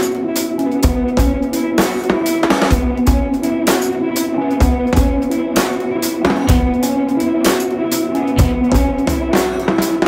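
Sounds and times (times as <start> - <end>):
drum kit beat: 0.0 - 10.0
sustained melody notes: 0.5 - 10.0.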